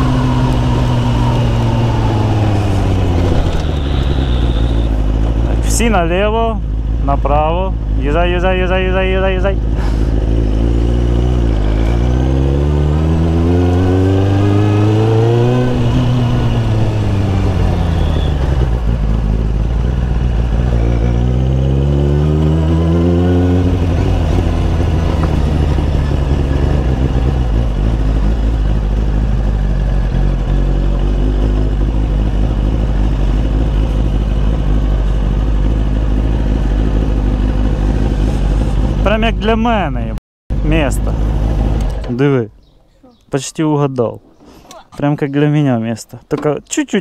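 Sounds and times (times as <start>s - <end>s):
motorcycle engine revving: 0.0s - 42.7s.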